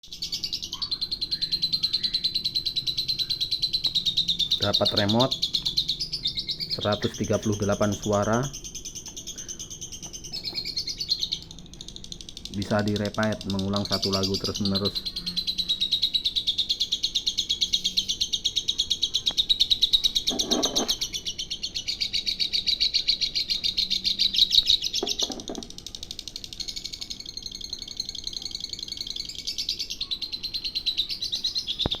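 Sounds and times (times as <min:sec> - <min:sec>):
recorded bird chattering chirps: 0:00.0 - 0:32.0.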